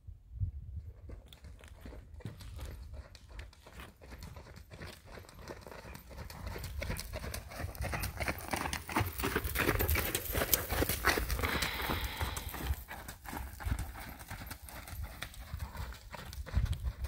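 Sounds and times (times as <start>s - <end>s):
horse hoofbeats on sand: 0.9s - 17.0s.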